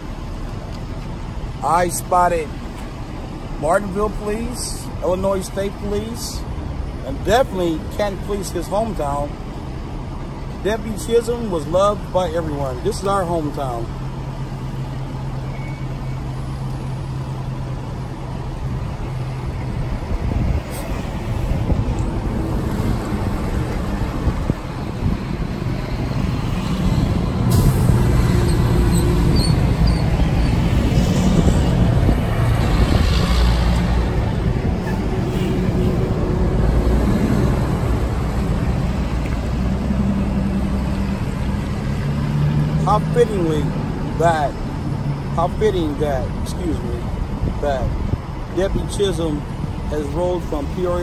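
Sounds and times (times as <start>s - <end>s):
vehicles driving past: 0.0s - 51.0s.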